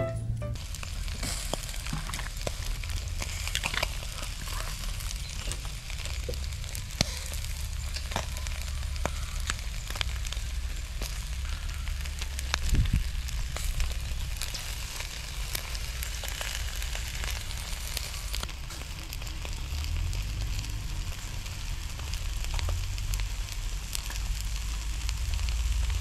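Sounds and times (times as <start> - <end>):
food sizzling on grill: 0.5 - 26.0
fire crackling and popping: 0.6 - 26.0.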